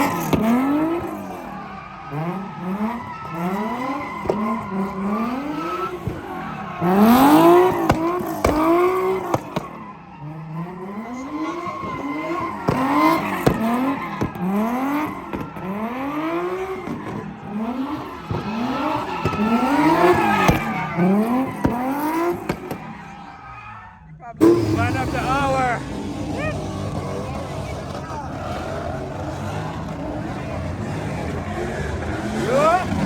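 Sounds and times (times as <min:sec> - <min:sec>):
car engine revving: 0:00.0 - 0:33.0
tyres squealing: 0:00.0 - 0:33.0.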